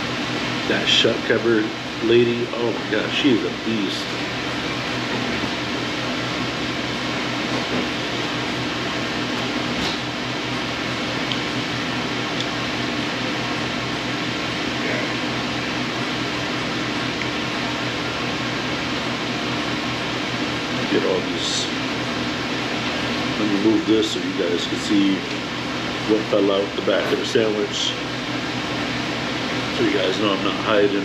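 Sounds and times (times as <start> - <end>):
air conditioning fan whirr: 0.0 - 31.0.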